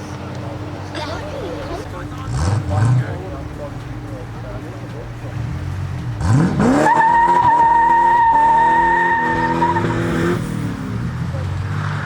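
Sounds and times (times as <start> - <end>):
tyres squealing: 0.0 - 10.3
car engine revving: 0.0 - 12.0.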